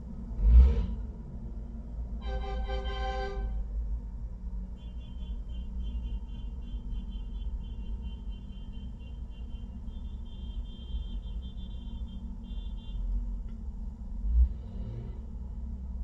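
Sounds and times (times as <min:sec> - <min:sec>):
engines rumbling: 0:00.0 - 0:16.0.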